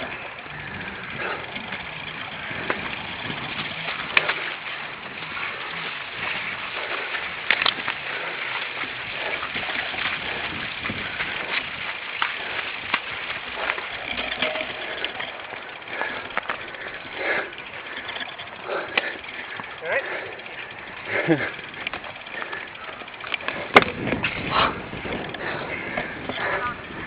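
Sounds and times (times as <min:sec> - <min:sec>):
bike rattling over bumps: 0:00.0 - 0:27.0
bike tyre noise on rough ground: 0:00.0 - 0:27.0.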